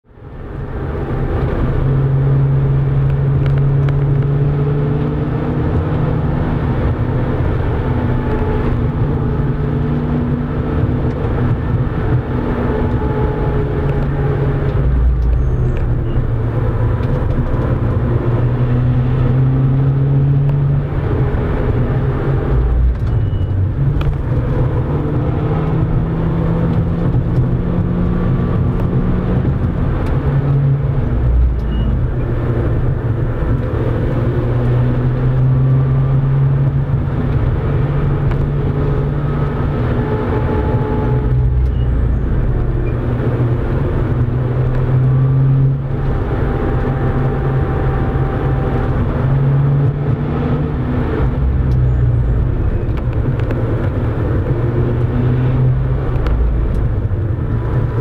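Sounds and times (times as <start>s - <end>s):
car engine while driving: 0.0s - 58.0s
road and tyre noise: 0.0s - 58.0s.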